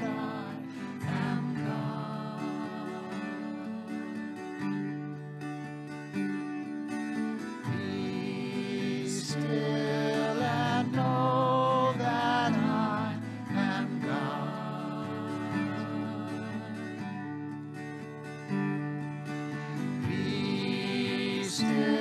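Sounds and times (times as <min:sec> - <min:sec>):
person singing slow melody: 0:00.0 - 0:05.1, 0:07.4 - 0:17.7, 0:19.5 - 0:22.0
acoustic guitar: 0:00.0 - 0:22.0.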